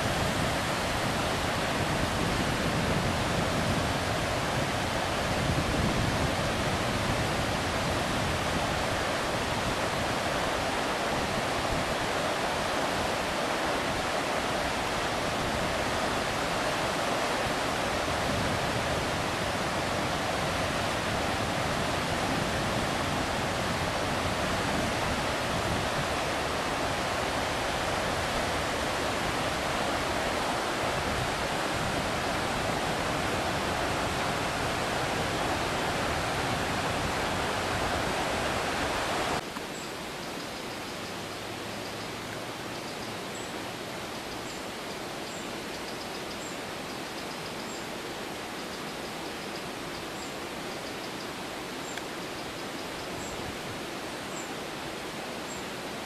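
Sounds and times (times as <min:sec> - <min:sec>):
water rushing over rapids: 0:00.0 - 0:56.0.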